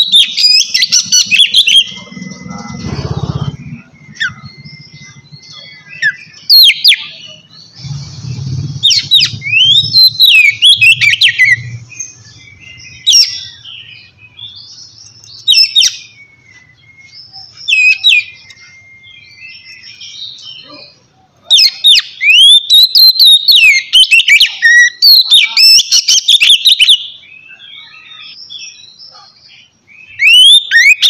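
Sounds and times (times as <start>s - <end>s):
bird singing whistled phrases: 0.0s - 8.0s, 8.8s - 31.0s.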